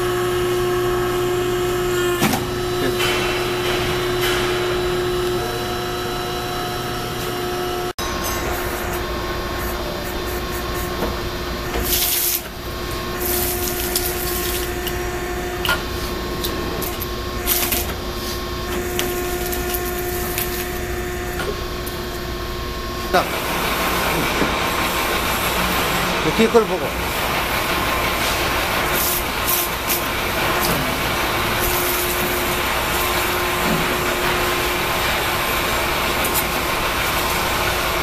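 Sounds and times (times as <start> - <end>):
hydraulic power units humming: 0.0 - 38.0.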